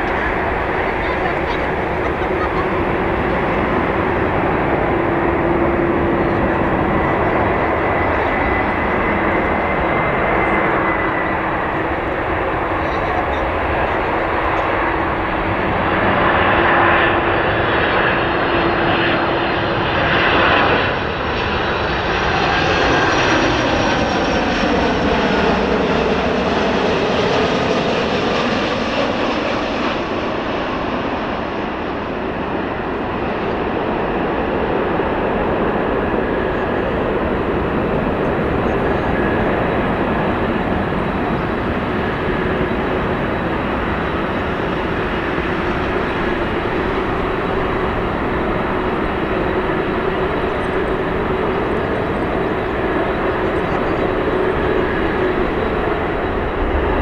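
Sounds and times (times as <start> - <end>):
jet airliner engines passing: 0.0 - 57.0.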